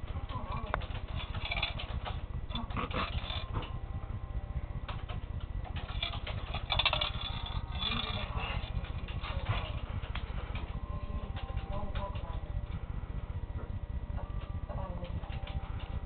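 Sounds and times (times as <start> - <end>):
exercise wheel rumbling: 0.0 - 16.0.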